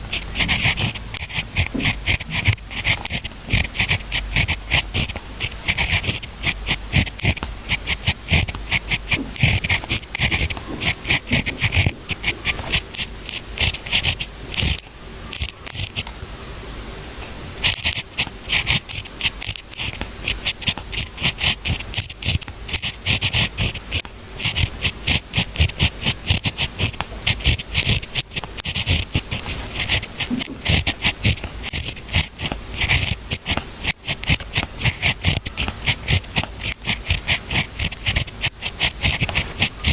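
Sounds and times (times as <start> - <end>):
pen scratching on paper: 0.0 - 16.1, 17.6 - 39.9.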